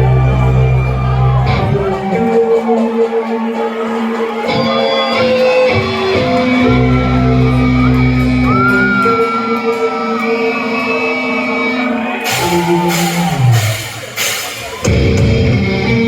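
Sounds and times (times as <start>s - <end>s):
distorted guitar and bass: 0.0s - 2.8s, 4.4s - 16.0s.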